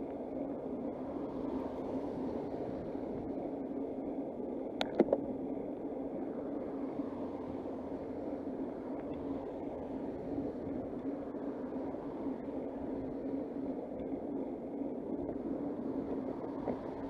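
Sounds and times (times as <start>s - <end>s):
bicycle wind and rolling noise: 0.0s - 17.0s.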